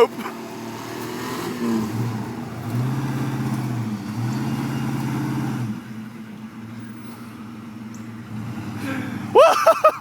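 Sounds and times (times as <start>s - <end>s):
vehicle engine revving under load: 0.0s - 9.4s.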